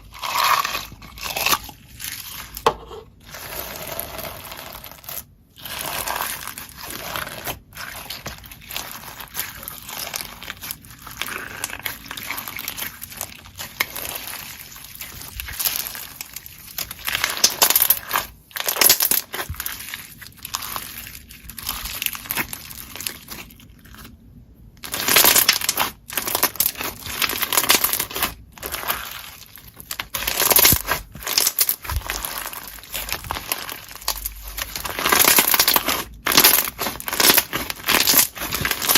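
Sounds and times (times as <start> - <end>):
hands squishing slime: 0.0 - 24.2, 24.8 - 38.9.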